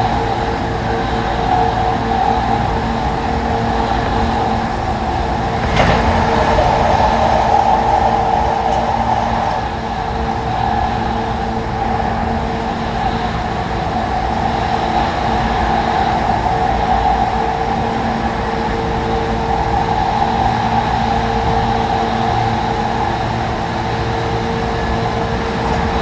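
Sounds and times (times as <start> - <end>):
electric train running: 0.0 - 26.0.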